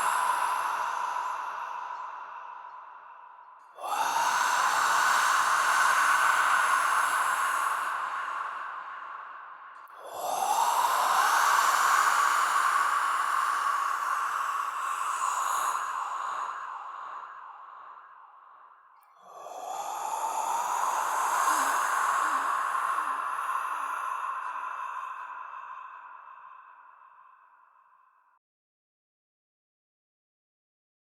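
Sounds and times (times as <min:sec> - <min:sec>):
ghostly breathy voice: 0:00.0 - 0:28.4.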